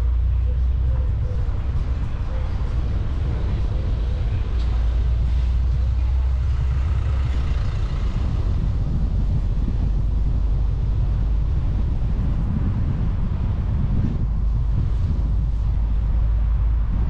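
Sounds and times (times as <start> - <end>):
car driving rumble: 0.0 - 17.0.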